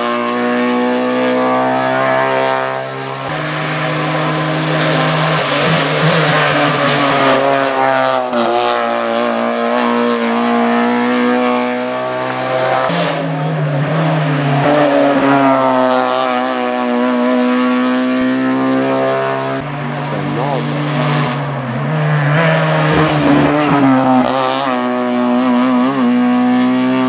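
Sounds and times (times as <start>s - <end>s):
racing car engine accelerating: 0.0s - 27.0s.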